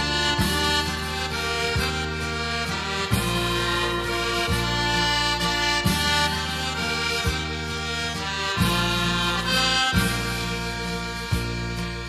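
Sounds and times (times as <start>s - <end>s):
instrumental music with bass: 0.0s - 12.0s.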